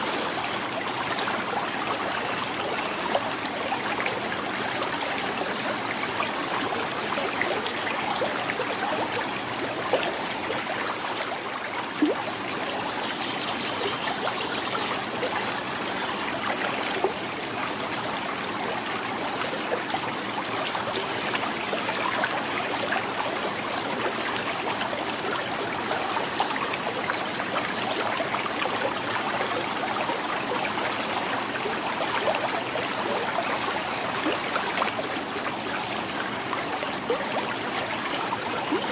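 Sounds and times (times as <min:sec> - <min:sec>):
shallow river flowing over stones: 0:00.0 - 0:38.9.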